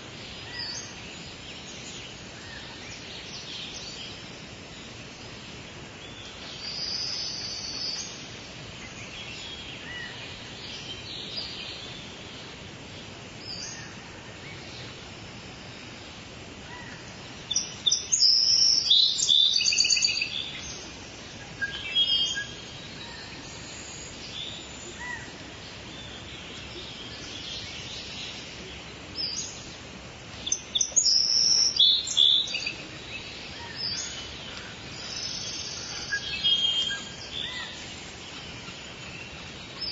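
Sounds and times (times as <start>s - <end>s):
birds chirping: 0.0s - 39.9s
rain falling: 0.0s - 39.9s.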